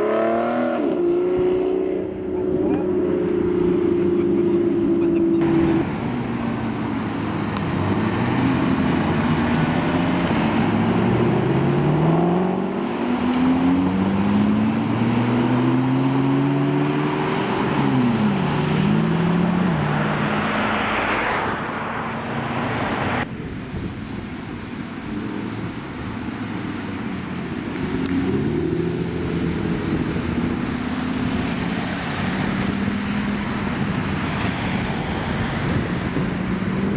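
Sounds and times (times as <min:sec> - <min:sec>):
sports car engines revving: 0:00.0 - 0:23.3, 0:24.7 - 0:36.9.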